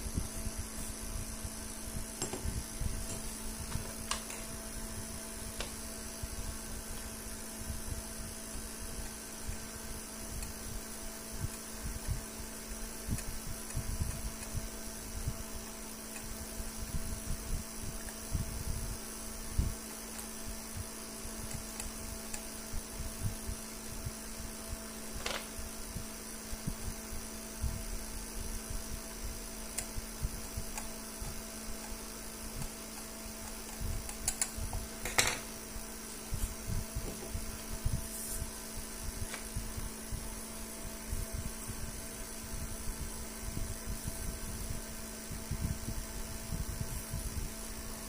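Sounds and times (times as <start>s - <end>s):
steady mechanical hum: 0.0s - 48.0s.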